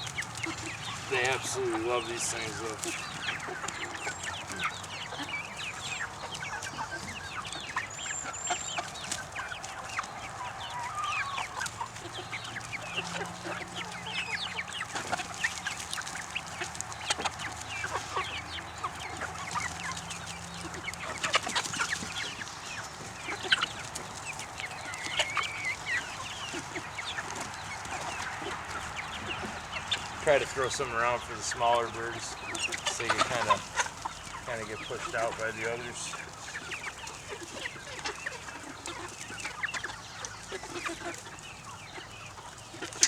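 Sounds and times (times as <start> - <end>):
chicks clucking and peeping: 0.0 - 43.0.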